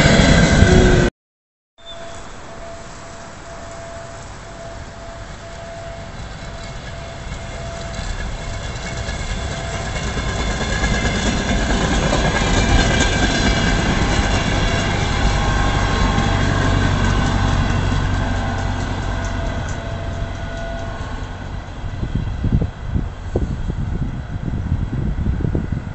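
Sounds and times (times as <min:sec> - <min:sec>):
high whining tones: 0:00.0 - 0:01.1, 0:01.8 - 0:22.4
passenger train rumble: 0:00.0 - 0:01.1, 0:01.8 - 0:25.9
rail clatter: 0:02.0 - 0:23.4.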